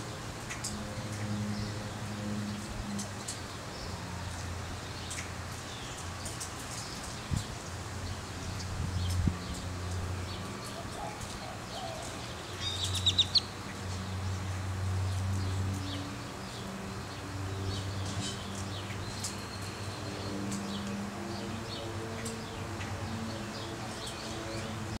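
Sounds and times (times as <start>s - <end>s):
sparrows chirping: 0.5s - 25.0s.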